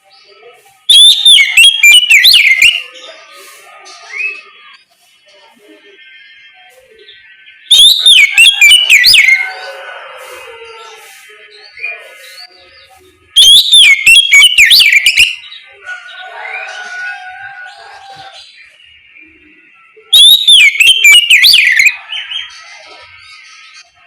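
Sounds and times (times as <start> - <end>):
songbird whistled song: 0.0 - 9.6, 11.0 - 24.0.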